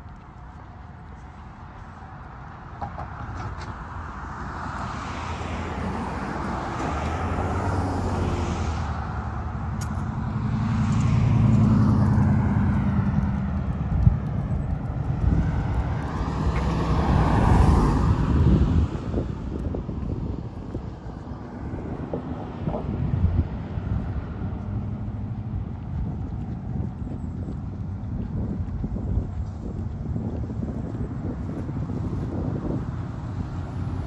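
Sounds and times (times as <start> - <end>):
passing vehicle engine hum: 0.0 - 34.0.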